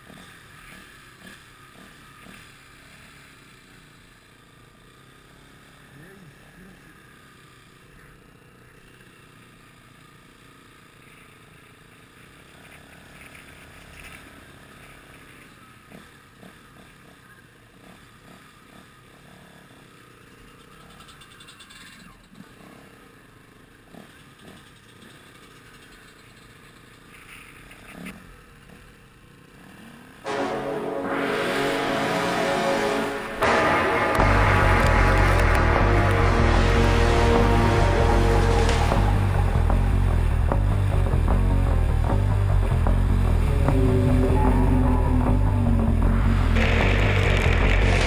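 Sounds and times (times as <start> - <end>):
faint motorcycle engine running: 0.0 - 30.2, 33.4 - 48.0.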